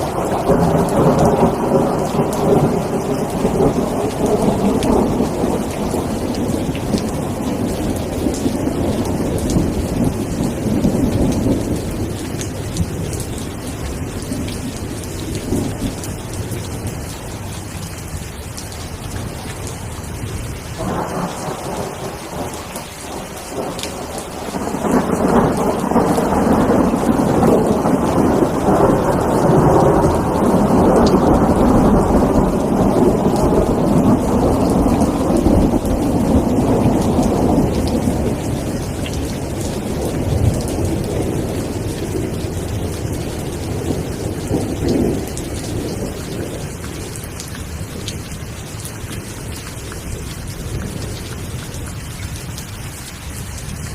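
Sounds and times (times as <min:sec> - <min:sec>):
rolling thunder: 0:00.0 - 0:16.9, 0:20.8 - 0:47.2
steady rain: 0:00.0 - 0:53.9.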